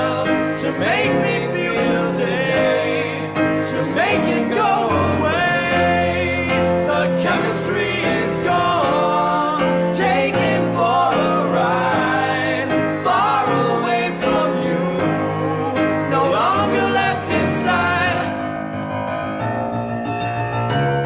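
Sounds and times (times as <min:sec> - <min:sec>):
person singing: 0:00.0 - 0:18.5.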